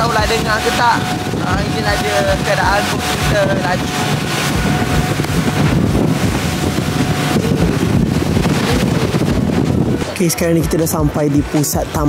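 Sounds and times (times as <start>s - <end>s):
speedboat engine rumble: 0.0s - 12.0s
wind buffeting microphone: 0.0s - 12.0s.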